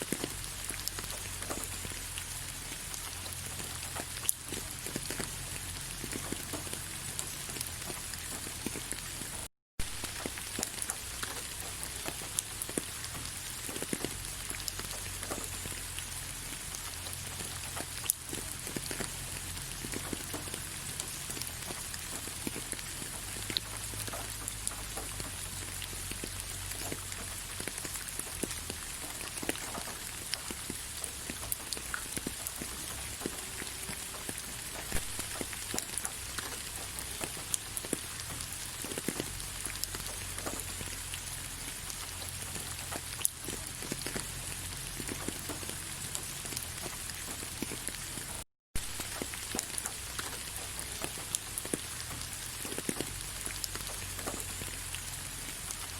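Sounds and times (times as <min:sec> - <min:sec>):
rain falling on leaves: 0:00.0 - 0:55.9.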